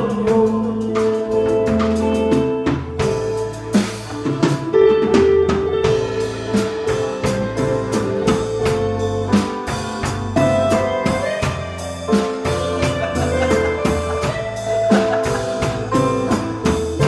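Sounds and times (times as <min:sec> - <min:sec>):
drum kit beat: 0:00.0 - 0:17.0
electric guitar melody: 0:00.0 - 0:17.0.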